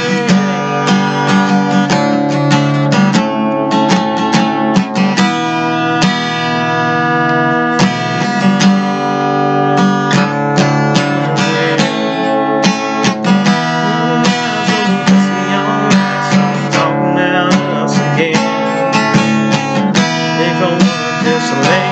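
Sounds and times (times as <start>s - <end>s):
acoustic guitar strumming chords: 0.0s - 21.9s.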